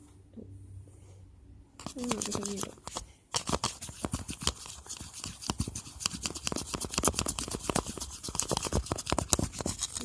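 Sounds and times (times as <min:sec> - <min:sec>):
knife scraping slime in plastic cup: 0:01.8 - 0:10.0.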